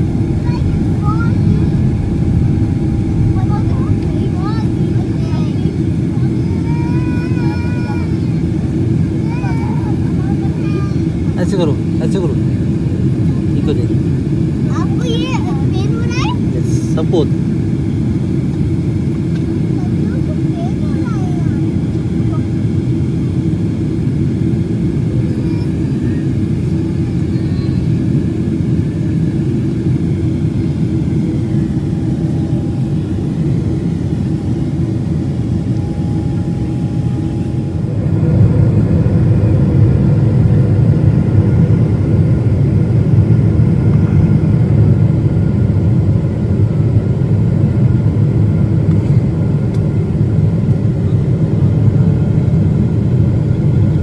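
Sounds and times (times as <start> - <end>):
jet engine cabin roar: 0.0 - 54.0.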